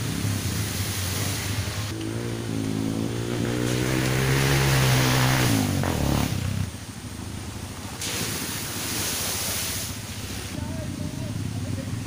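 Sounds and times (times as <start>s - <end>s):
motorcycle engine revving: 0.0s - 8.9s, 9.9s - 12.0s
water splashing: 0.0s - 10.6s
stream rushing: 0.0s - 12.0s.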